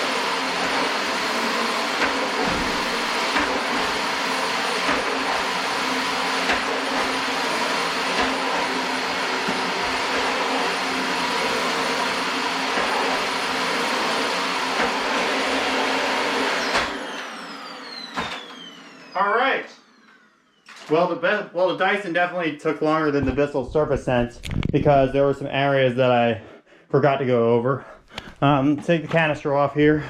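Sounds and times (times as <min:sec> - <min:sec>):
vacuum cleaner whining: 0:00.0 - 0:25.8.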